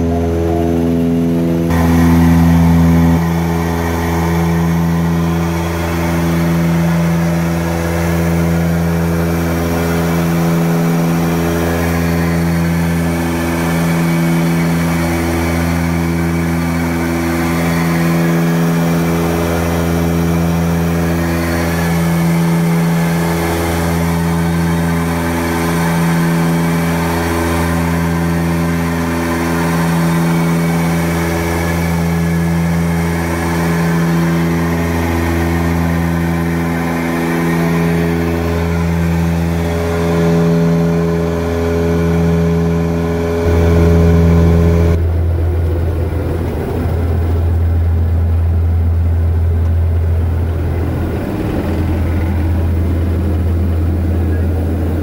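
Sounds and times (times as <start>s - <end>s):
propeller engines droning: 0.0s - 55.0s.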